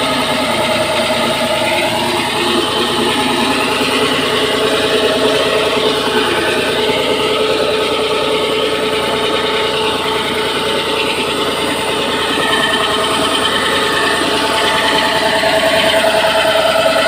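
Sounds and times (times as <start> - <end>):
drilling machine drone: 0.0 - 17.0
steady whine: 0.0 - 17.0.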